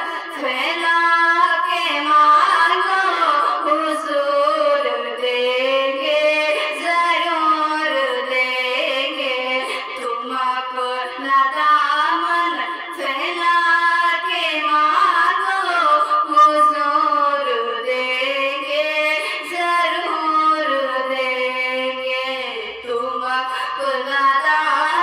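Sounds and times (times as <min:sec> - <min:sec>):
woman singing: 0:00.0 - 0:25.0.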